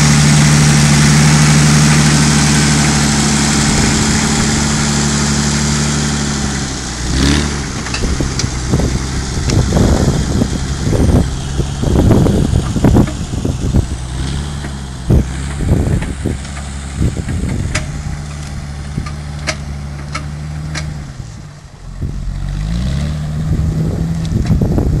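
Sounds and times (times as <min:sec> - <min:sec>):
tractor engine running under load: 0:00.0 - 0:25.0
trailer clunking over rough ground: 0:00.0 - 0:25.0.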